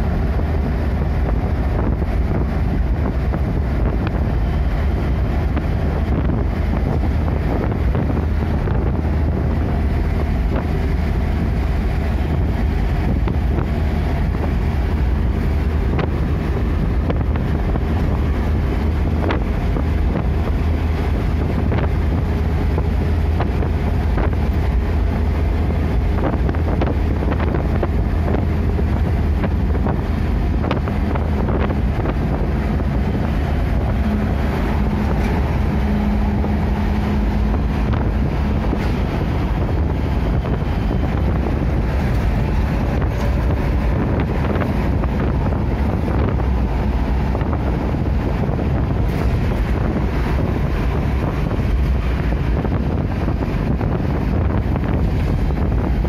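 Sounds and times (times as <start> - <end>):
engine and road noise rumble: 0.0 - 56.0
wind noise: 0.0 - 56.0.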